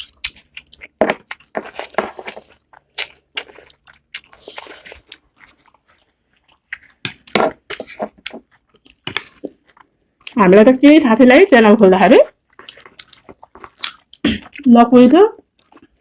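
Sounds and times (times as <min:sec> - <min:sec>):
person chewing: 0:00.0 - 0:10.4, 0:12.4 - 0:14.7, 0:15.4 - 0:16.0.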